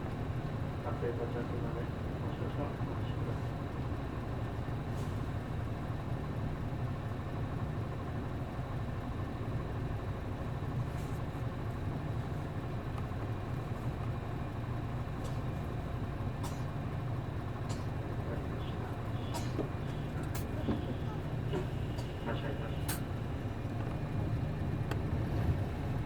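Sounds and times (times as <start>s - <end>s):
bus diesel engine idling: 0.0s - 26.0s.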